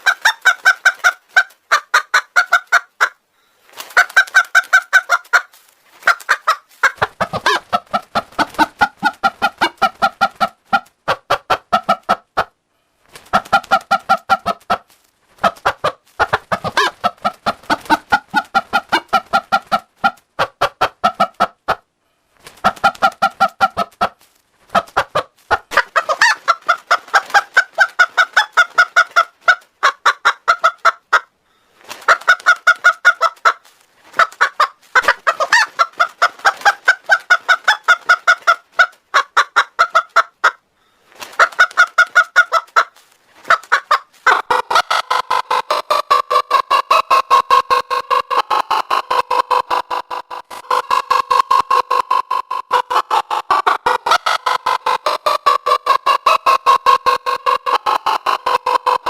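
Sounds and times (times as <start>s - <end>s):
voice-changed hen clucking: 0.0s - 3.2s, 3.8s - 12.6s, 13.2s - 21.9s, 22.5s - 31.3s, 31.9s - 40.6s, 41.3s - 59.0s.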